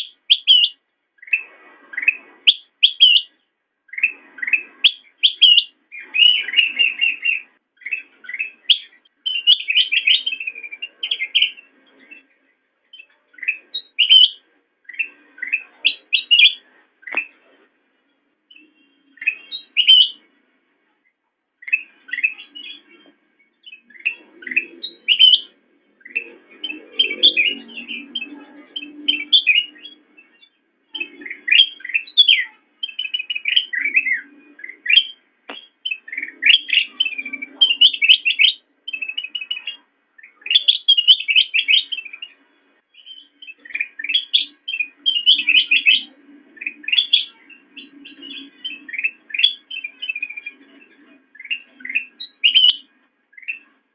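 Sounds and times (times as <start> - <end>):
bird chirping and twittering: 0.0 - 53.9.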